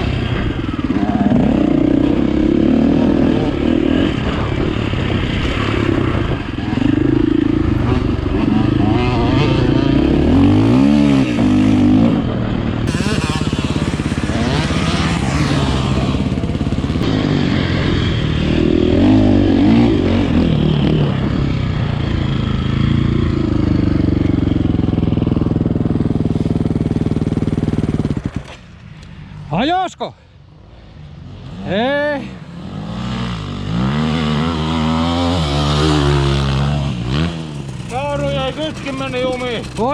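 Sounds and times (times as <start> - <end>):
dirt bike engine revving: 0.0 - 28.5, 31.3 - 39.9.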